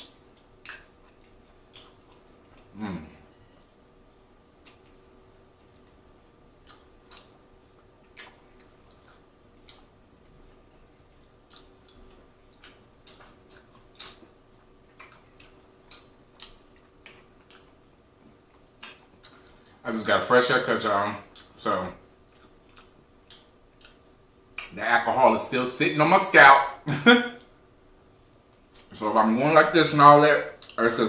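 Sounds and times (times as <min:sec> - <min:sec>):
person chewing: 0:00.0 - 0:19.8, 0:21.0 - 0:24.8, 0:27.3 - 0:29.0, 0:30.5 - 0:30.8.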